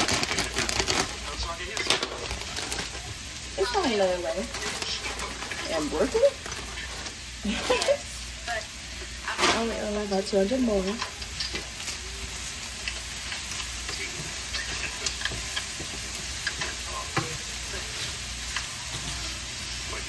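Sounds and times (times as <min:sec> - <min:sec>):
food sizzling in a pot: 0:00.0 - 0:20.0.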